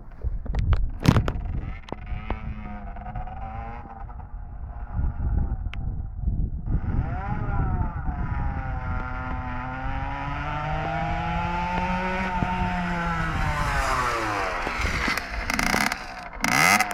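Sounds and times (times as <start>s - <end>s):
two-stroke engine running: 1.0s - 5.6s, 6.8s - 16.9s.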